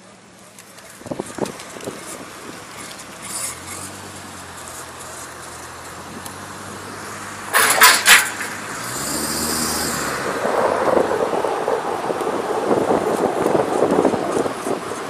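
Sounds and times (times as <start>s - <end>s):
car driving hum: 0.0s - 15.0s.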